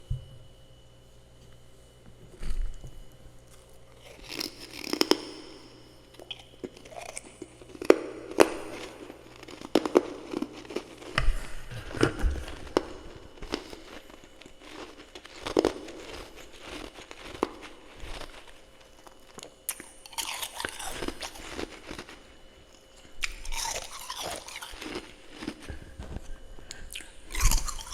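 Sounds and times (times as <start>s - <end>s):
freezer frost crunching: 2.2s - 27.9s.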